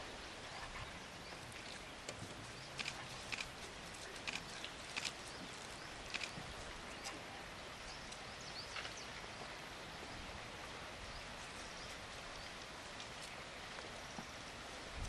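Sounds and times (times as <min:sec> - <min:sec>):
steady forest hiss: 0:00.0 - 0:15.0.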